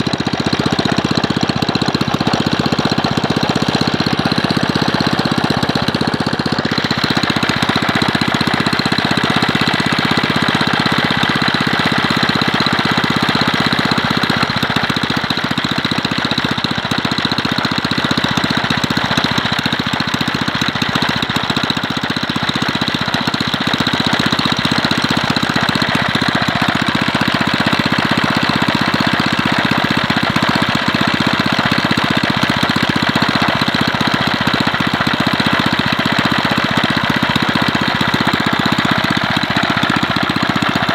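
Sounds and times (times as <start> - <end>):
two-stroke engine running: 0.0 - 40.9.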